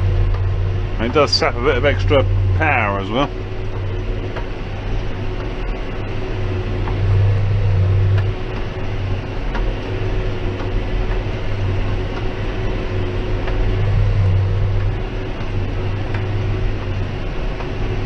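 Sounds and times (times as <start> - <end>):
faint machinery clicks: 0.0 - 18.0
tractor diesel engine hum: 0.0 - 18.0.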